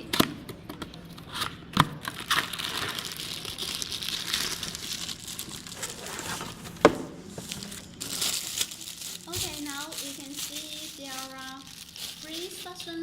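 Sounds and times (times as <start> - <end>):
packaging crinkling: 2.0 - 13.0.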